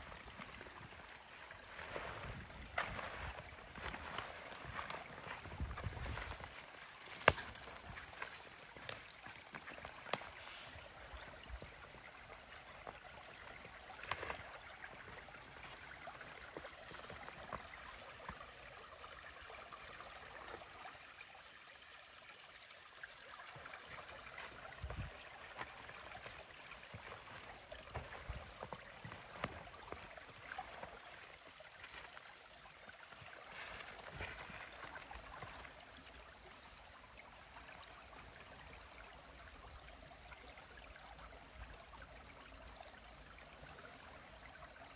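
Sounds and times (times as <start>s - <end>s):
stream trickling and gurgling: 0.0s - 44.9s.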